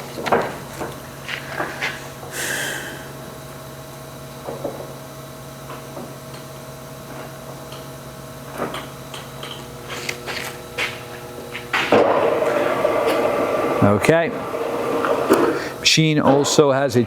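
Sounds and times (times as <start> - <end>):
lathe humming: 0.0 - 16.2.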